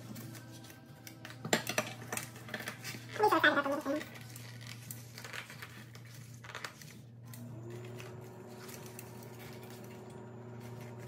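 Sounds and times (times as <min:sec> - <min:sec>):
plastic packaging rustling: 0:00.0 - 0:11.0.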